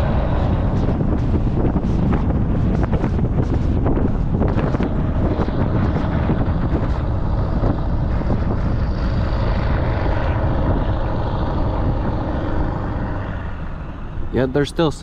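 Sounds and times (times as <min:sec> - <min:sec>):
diesel engine and road rumble: 0:00.0 - 0:15.0.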